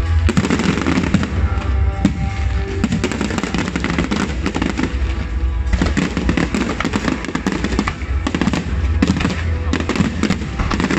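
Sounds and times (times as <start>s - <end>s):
deep low rumble: 0.0s - 10.9s
fireworks bangs and crackles: 0.0s - 10.9s.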